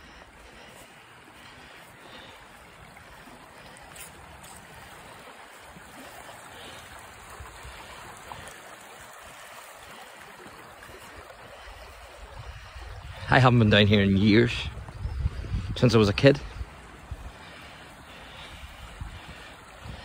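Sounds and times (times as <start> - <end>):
river flowing over stones: 0.0 - 14.9, 15.6 - 20.0.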